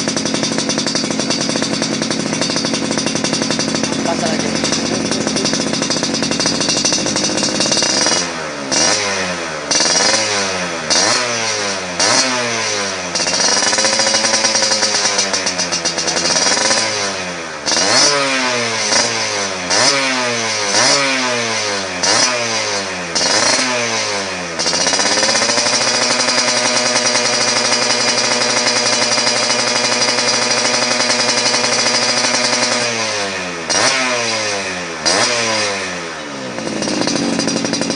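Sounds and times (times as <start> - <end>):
two-stroke motorcycle revving: 0.0 - 37.9.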